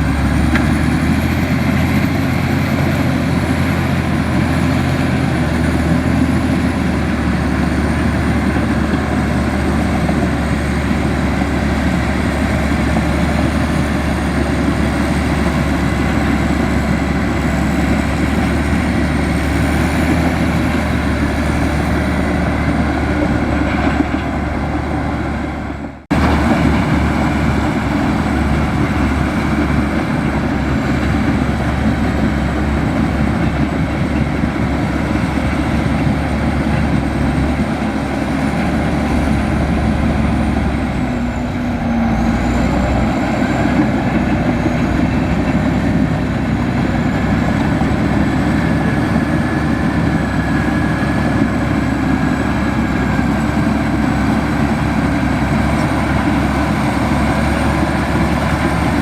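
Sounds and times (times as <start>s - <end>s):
diesel earthmover engine running: 0.0s - 59.0s.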